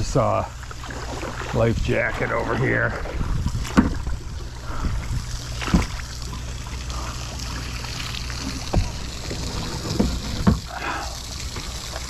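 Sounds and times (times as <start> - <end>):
steady low hum: 0.0 - 12.0
water dripping off paddle blades: 0.0 - 12.0.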